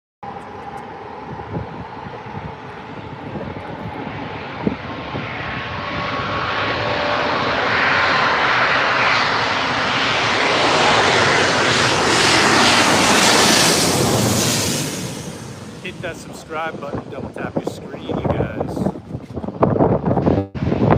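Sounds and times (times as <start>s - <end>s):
airplane engine roar: 0.2s - 20.9s.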